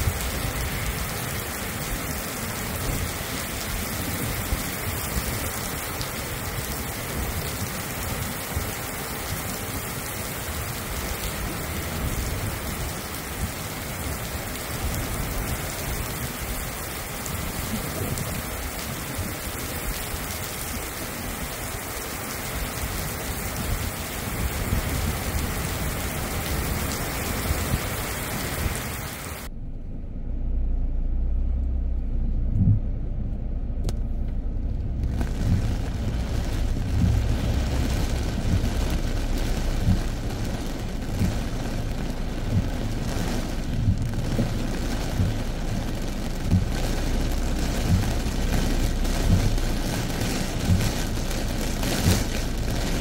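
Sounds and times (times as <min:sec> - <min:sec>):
heavy rain pouring: 0:00.0 - 0:29.5, 0:34.5 - 0:53.0
low rumble: 0:00.0 - 0:53.0.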